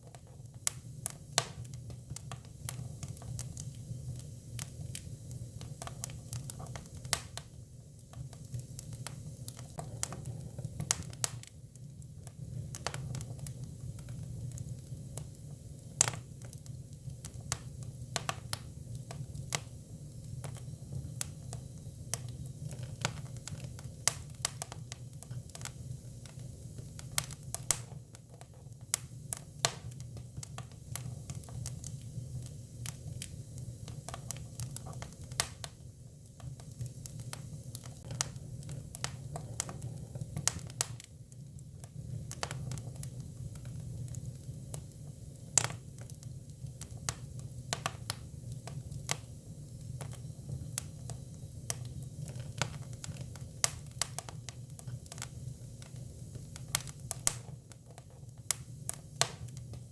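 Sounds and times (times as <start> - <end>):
firewood crackling and popping: 0.0 - 59.9.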